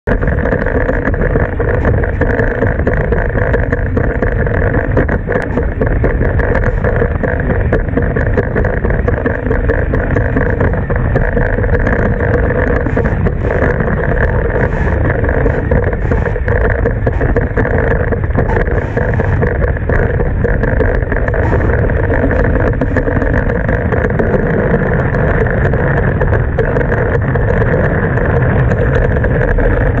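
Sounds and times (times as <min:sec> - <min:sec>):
constant hum: 0:00.0 - 0:30.0.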